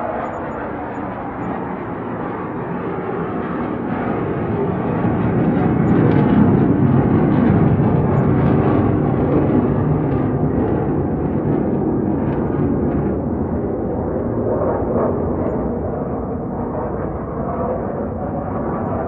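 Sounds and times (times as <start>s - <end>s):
fighter jets flying by: 0.0s - 19.0s.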